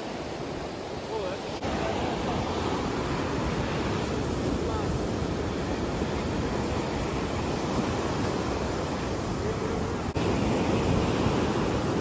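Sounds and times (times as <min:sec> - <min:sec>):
surf washing up a beach: 0:00.0 - 0:12.0.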